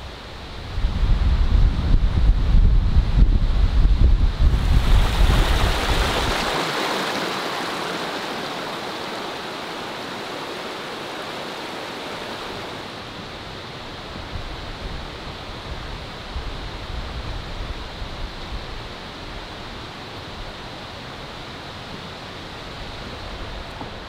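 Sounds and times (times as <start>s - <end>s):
stream rushing: 4.1s - 24.0s.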